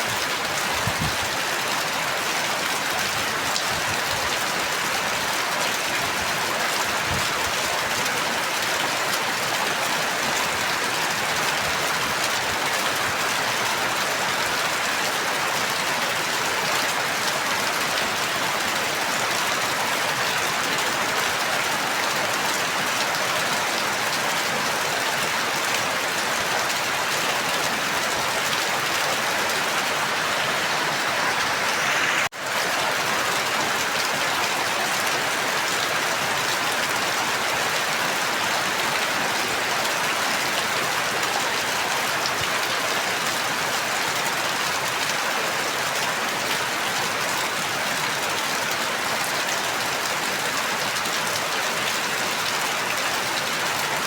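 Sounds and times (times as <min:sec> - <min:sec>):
dense rainfall: 0:00.0 - 0:54.0.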